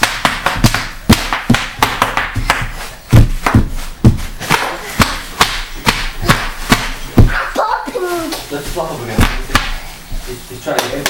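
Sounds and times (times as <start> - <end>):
thuds of feet landing: 0.0 - 7.7, 8.4 - 10.2.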